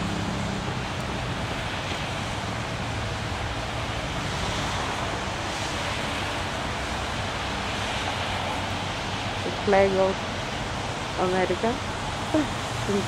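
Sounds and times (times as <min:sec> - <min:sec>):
street ambience hiss: 0:00.0 - 0:13.0.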